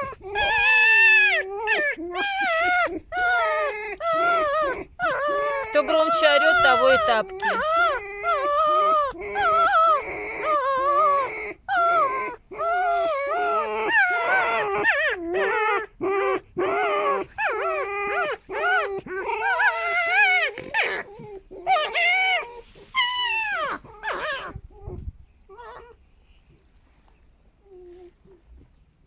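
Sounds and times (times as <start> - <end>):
foxes screaming: 0.0 - 26.0.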